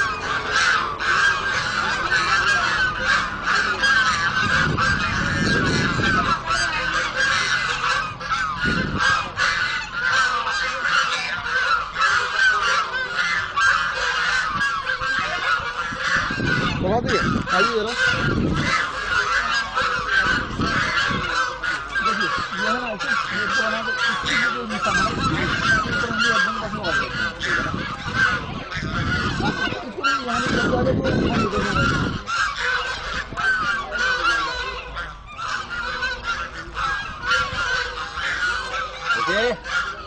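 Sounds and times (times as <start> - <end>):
flock of birds chattering: 0.0 - 40.0.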